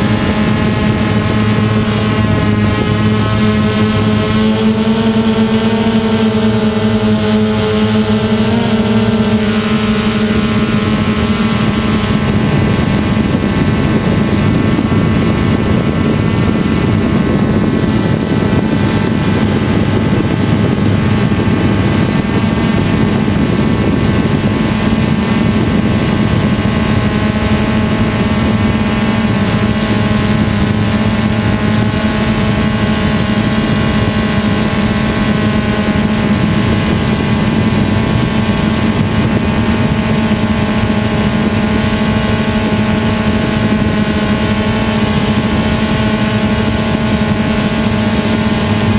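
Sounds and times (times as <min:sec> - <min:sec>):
drone propellers whirring: 0:00.0 - 0:48.9.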